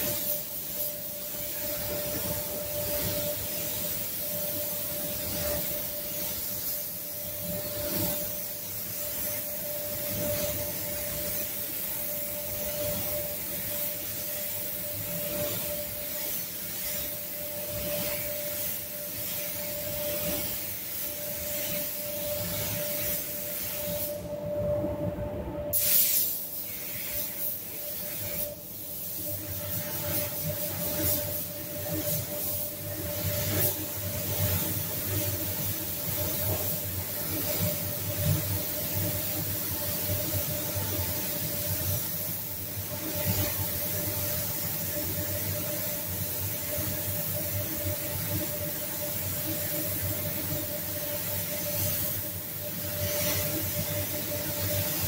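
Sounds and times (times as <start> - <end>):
spray gun hissing: 0.0 - 24.3, 25.7 - 55.0.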